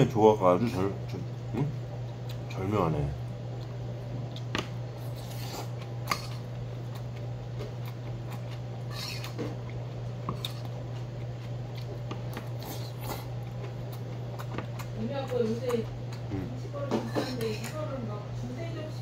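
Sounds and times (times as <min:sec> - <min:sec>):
chewing food: 0:01.1 - 0:17.8.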